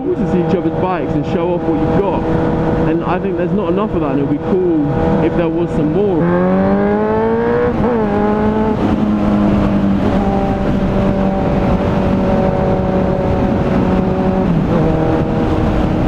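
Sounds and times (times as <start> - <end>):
motorcycle engine running: 0.0 - 16.0
wind rush on microphone: 0.0 - 16.0.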